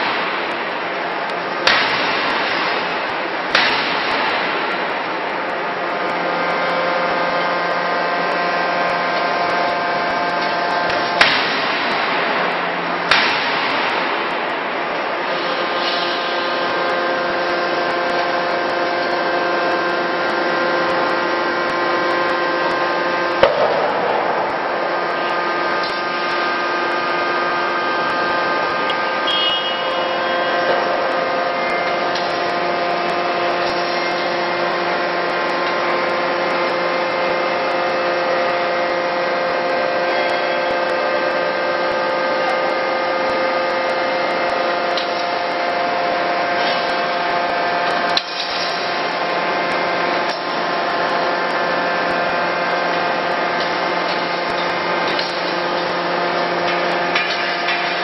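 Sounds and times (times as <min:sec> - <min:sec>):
forging machine drone: 0:00.0 - 0:58.0.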